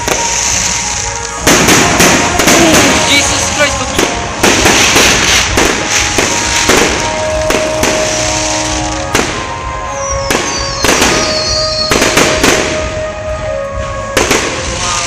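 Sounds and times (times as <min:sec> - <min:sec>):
fireworks bangs and crackle: 0:00.0 - 0:15.0
music with held notes: 0:00.0 - 0:15.0.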